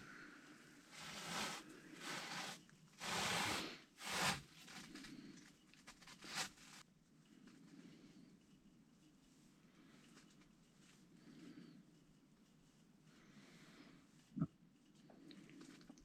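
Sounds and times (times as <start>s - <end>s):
rustling and scraping: 0.0s - 16.0s.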